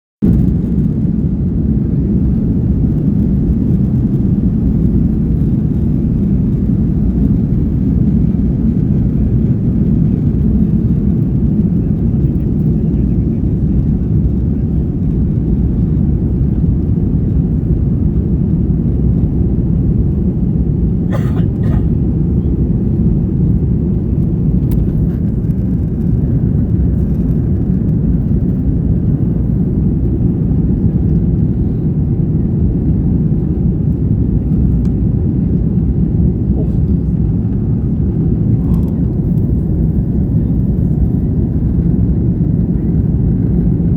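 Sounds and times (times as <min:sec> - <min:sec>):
jet engines rumbling on take-off: 0:00.2 - 0:43.9.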